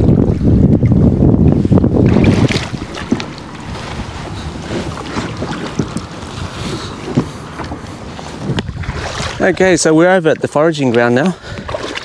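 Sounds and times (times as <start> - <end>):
water splashing around a kayak: 0.0 - 12.0
wind buffeting microphone: 0.0 - 12.0.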